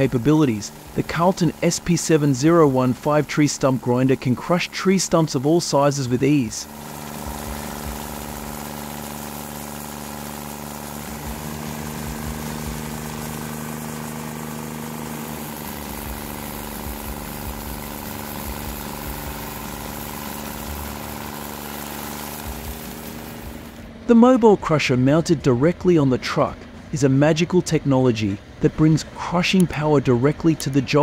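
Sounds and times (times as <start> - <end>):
cutter wheel grinding stump: 0.0 - 31.0
stump grinder engine running: 0.0 - 31.0.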